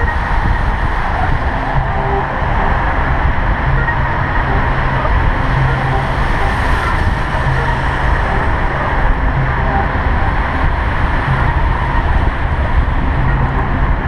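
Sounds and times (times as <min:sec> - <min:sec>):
music from portable boombox: 0:00.0 - 0:14.0
wind buffeting microphone: 0:00.0 - 0:14.0.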